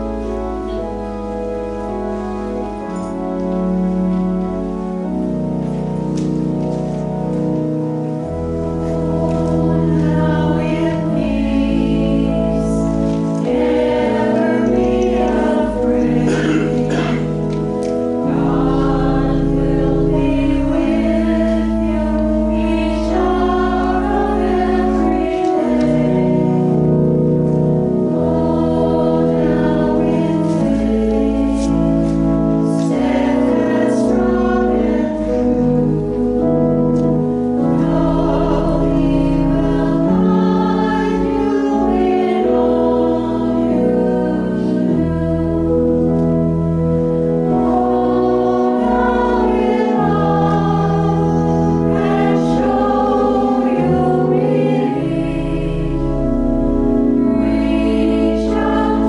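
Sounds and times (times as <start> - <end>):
organ accompaniment: 0.0 - 59.0
group singing a hymn: 8.2 - 59.0.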